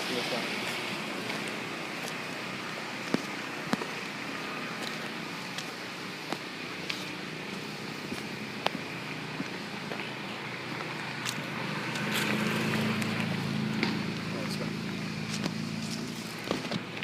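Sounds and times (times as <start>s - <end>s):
low engine hum: 0.0s - 17.0s
outdoor background noise: 0.0s - 17.0s.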